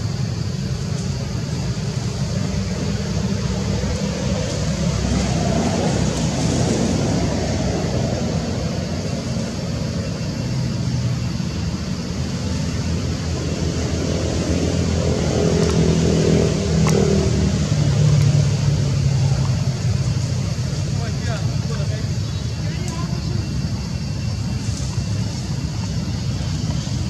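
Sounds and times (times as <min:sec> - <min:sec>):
engine low rumble: 0:00.0 - 0:27.0.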